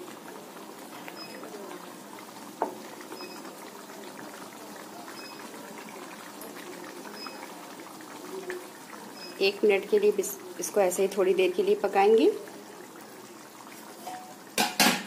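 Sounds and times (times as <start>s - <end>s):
gravy bubbling in a frying pan: 0.0s - 15.0s.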